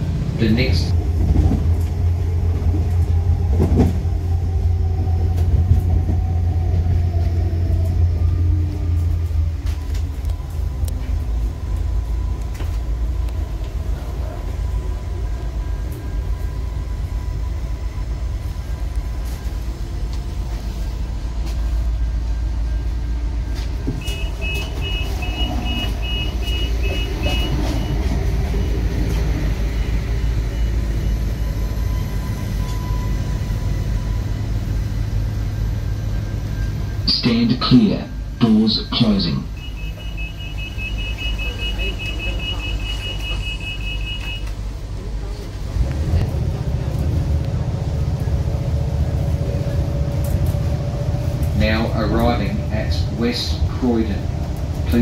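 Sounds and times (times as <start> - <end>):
train car rumbling: 0.0 - 55.0.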